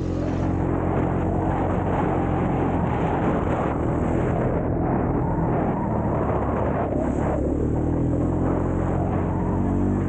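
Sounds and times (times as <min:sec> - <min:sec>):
engine running steadily: 0:00.0 - 0:10.0
rushing noise: 0:00.0 - 0:10.0.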